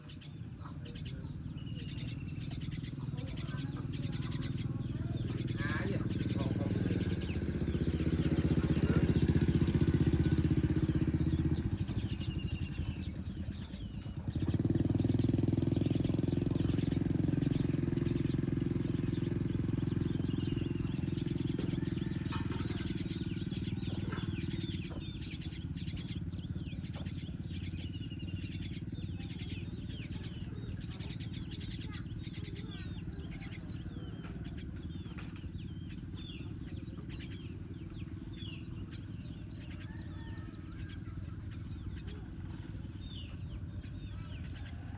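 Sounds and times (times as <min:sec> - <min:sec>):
low engine rumble: 0:00.0 - 0:44.9
small birds chirping: 0:00.0 - 0:44.9.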